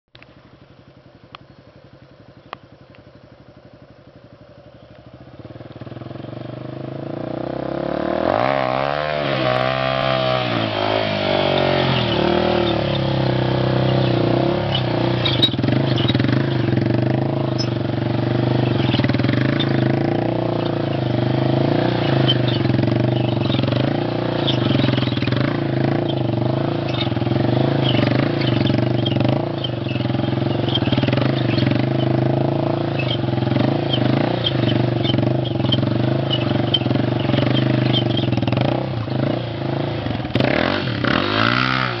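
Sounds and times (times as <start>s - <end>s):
motorcycle engine revving: 0.2s - 42.0s.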